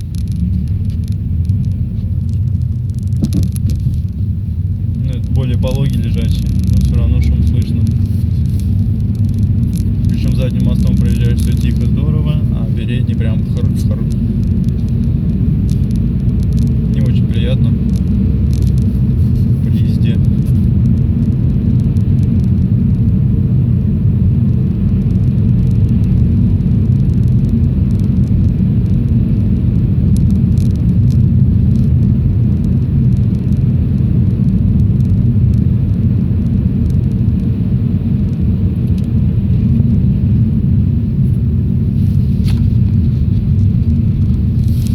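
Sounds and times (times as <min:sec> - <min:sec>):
road and engine rumble: 0:00.0 - 0:44.9.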